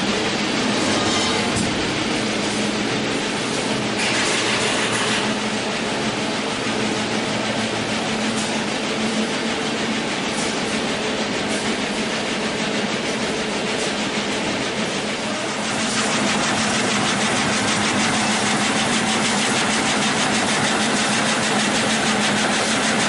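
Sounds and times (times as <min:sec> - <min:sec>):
machine metallic clatter: 0:00.0 - 0:23.0.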